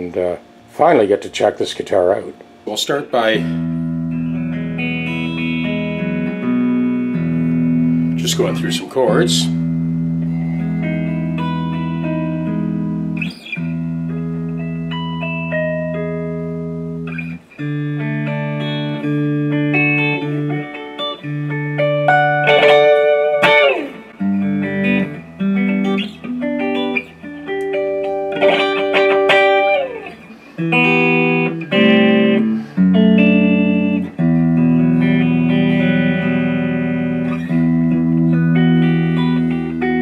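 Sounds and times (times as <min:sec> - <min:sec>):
electric guitar chords: 0:00.0 - 0:40.0
guitar single notes picked: 0:00.0 - 0:40.0.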